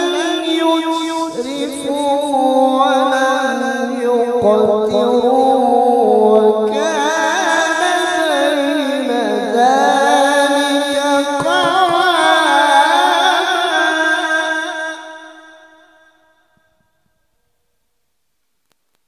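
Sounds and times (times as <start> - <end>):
man reciting melodically: 0.0 - 15.8.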